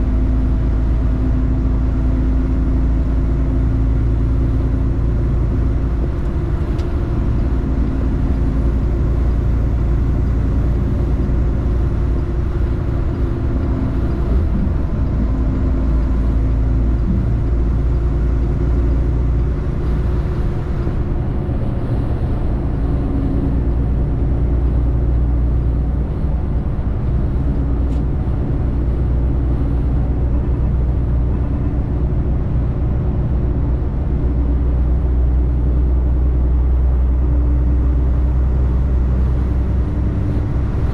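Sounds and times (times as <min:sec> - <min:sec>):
road noise: 0:00.0 - 0:40.9
truck diesel engine running: 0:00.0 - 0:40.9.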